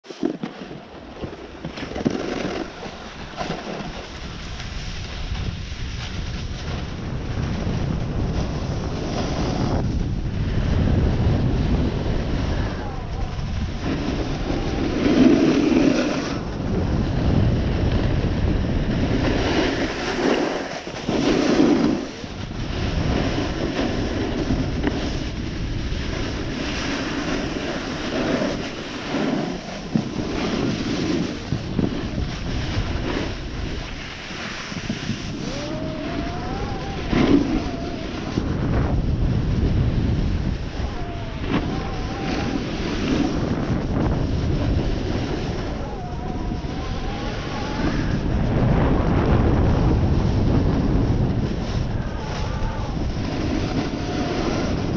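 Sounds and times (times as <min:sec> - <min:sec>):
snowboard sliding on snow: 0:00.0 - 0:54.9
wind buffeting microphone: 0:00.0 - 0:54.9.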